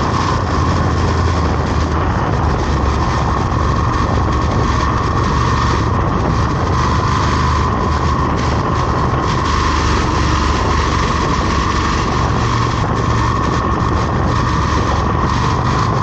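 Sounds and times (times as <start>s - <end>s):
road and wind noise: 0.0s - 16.0s
vehicle engine drone: 0.0s - 16.0s.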